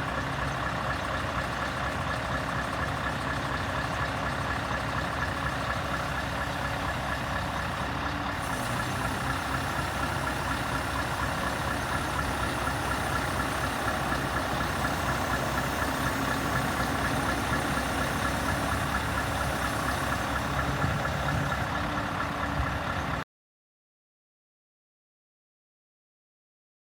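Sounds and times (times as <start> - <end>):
diesel engine idling: 0.0 - 23.2.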